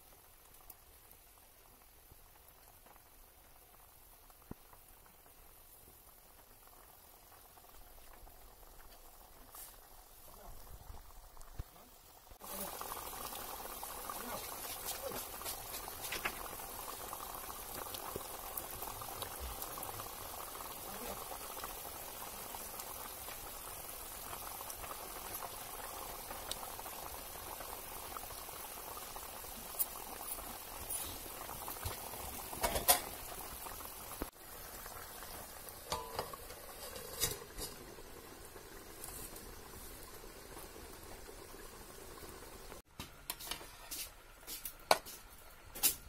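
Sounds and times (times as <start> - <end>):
curry bubbling: 0.0 - 42.9.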